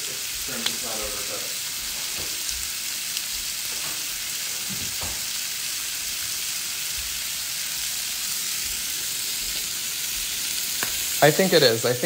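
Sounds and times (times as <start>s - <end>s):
shrimp sizzling in oil: 0.0s - 12.0s.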